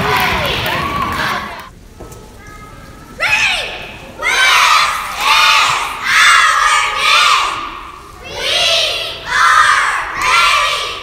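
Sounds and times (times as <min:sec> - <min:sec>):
girls chanting a cheer: 0:00.0 - 0:01.7, 0:03.2 - 0:11.0.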